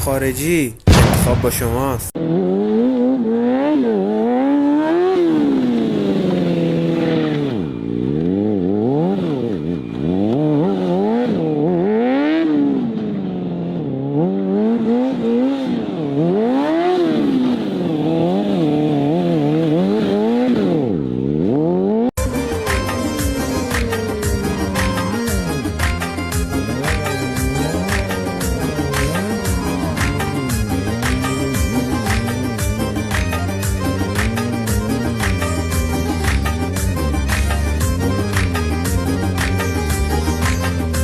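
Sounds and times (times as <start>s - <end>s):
motorcycle engine revving: 2.1s - 41.0s.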